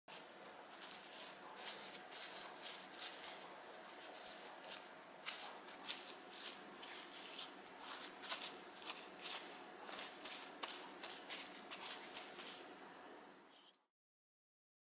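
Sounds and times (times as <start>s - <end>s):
spoon spreading wet paste: 0.1s - 12.7s.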